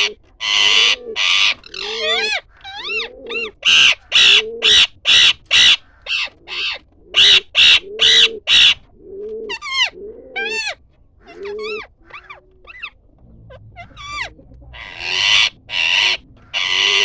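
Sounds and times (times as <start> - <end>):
bird squawking harshly: 0.0 - 8.8, 9.6 - 17.0.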